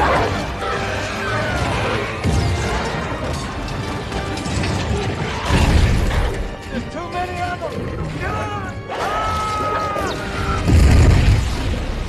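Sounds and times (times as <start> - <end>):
orchestral score: 0.0 - 12.0.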